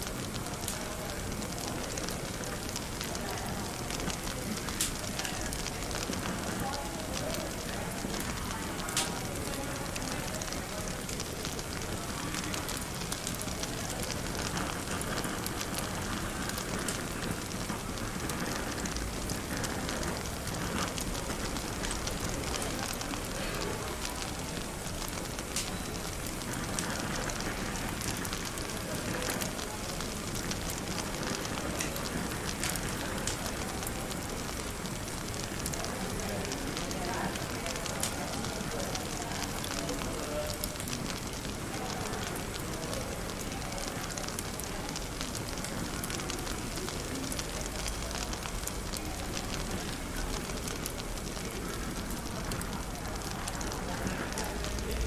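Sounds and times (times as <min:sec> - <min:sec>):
cafe chatter: 0:00.0 - 0:55.0
fireplace crackling: 0:00.0 - 0:55.0.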